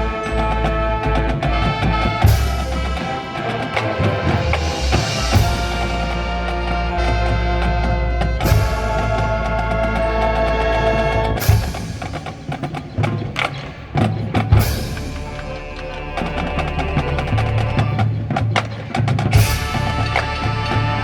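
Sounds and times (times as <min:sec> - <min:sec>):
marching band percussion: 0:00.0 - 0:21.0.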